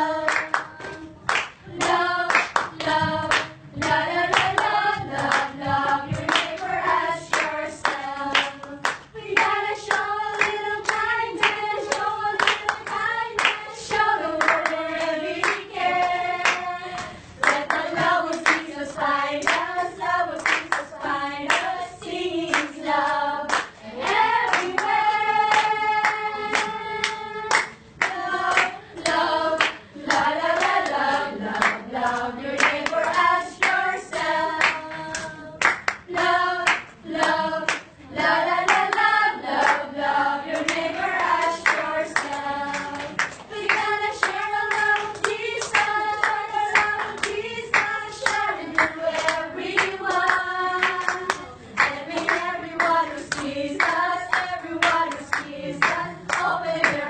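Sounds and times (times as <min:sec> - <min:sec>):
women singing together: 0:00.0 - 0:57.0
hand claps: 0:00.2 - 0:20.9, 0:22.4 - 0:39.9, 0:40.5 - 0:57.0.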